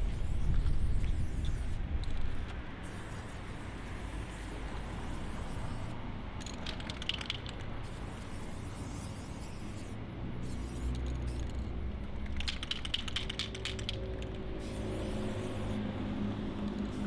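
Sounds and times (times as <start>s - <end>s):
spray paint can hissing: 0.0s - 15.8s, 16.5s - 17.0s.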